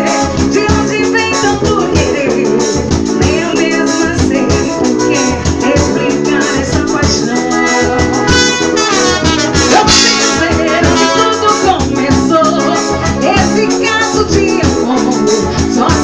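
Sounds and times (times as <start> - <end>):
lively song with steady beat: 0.0 - 16.0.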